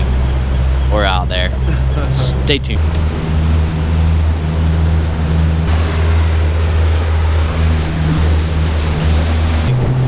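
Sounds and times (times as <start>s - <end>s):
boat engine drone: 0.0s - 10.0s
water rushing along hull: 0.0s - 10.0s.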